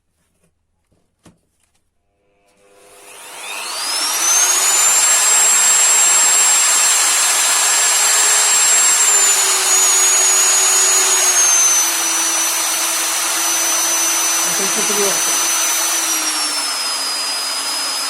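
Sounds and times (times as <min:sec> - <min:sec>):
electric router motor whine: 0:02.5 - 0:18.0.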